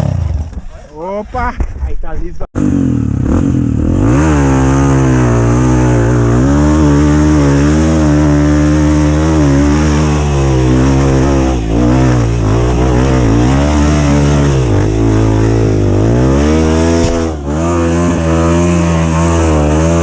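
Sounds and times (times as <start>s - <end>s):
dirt bike engine revving: 0.0s - 0.7s, 2.6s - 20.0s.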